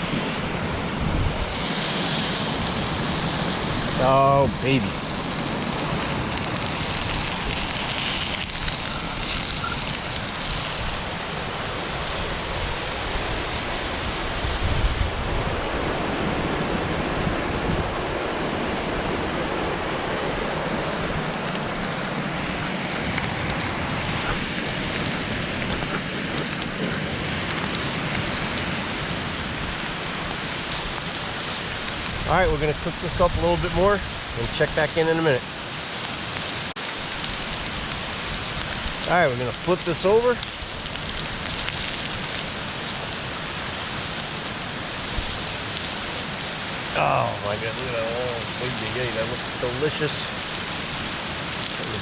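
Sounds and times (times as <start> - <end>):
steak sizzling in a skillet: 1.2 - 15.4, 21.4 - 52.0.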